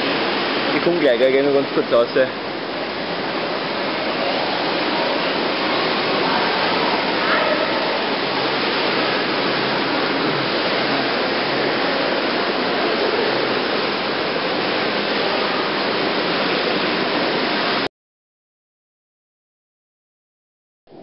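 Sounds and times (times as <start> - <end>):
running water rushing: 0.0 - 17.9.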